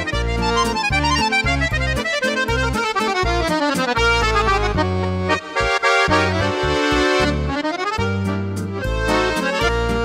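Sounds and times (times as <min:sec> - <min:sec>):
button accordion playing: 0:00.0 - 0:10.0.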